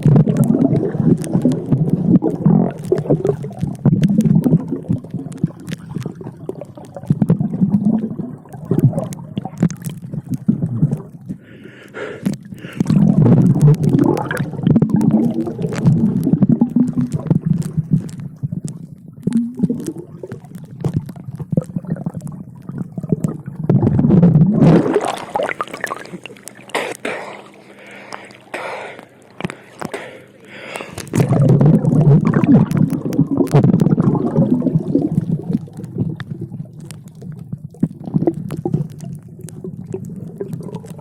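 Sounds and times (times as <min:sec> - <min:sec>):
muffled underwater gurgling: 0:00.0 - 0:41.0
small underwater clicks: 0:00.0 - 0:41.0.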